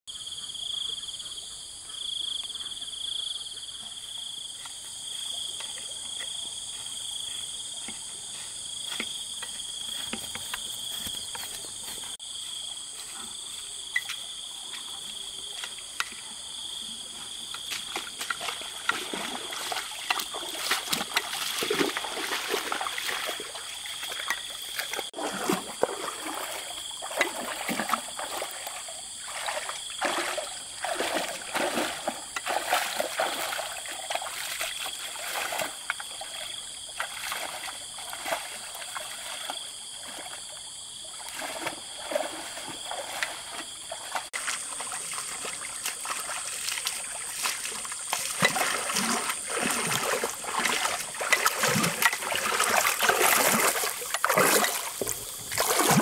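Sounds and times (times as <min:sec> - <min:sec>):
insect chorus chirring: 0:00.1 - 0:56.0
water trickling and splashing: 0:03.8 - 0:56.0.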